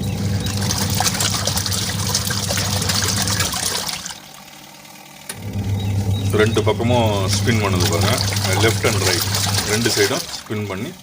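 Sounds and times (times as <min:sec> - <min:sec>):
water sloshing and splashing: 0:00.0 - 0:04.5, 0:06.3 - 0:11.0
washing machine motor humming: 0:00.0 - 0:11.0.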